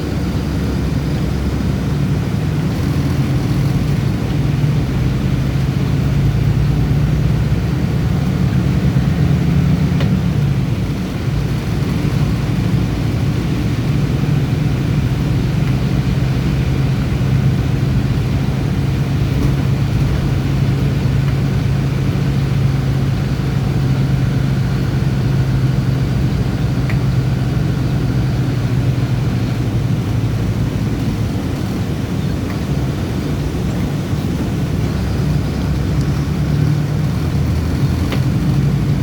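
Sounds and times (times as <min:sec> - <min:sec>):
bus engine humming: 0:00.0 - 0:39.0
road noise: 0:00.0 - 0:39.0.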